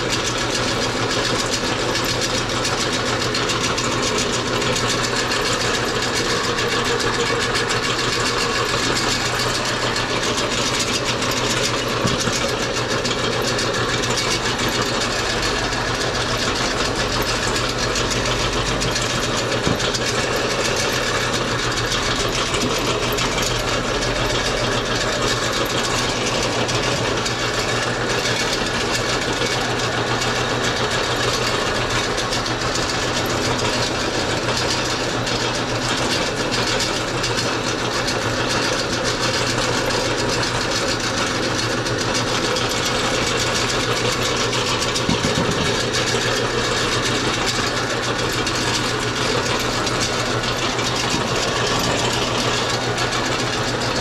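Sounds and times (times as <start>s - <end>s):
meat grinder humming: 0.0s - 54.0s.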